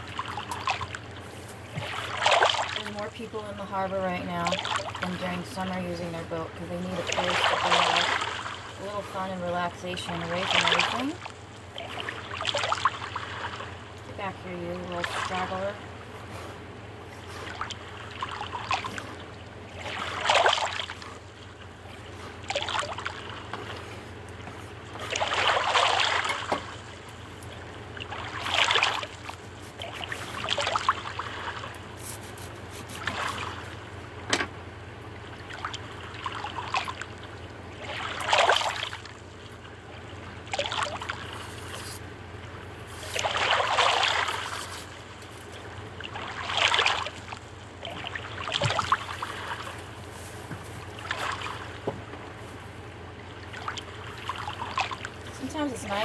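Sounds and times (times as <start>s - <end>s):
steady low hum: 0.0s - 56.0s
water slapping against boat hull: 0.0s - 56.0s.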